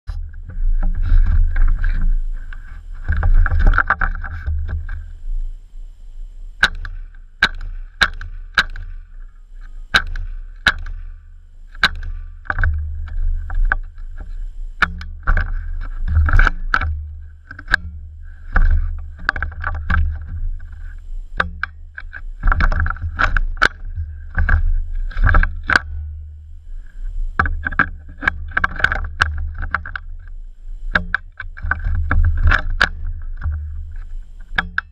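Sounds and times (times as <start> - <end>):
low rumbling noise: 0.0 - 34.9.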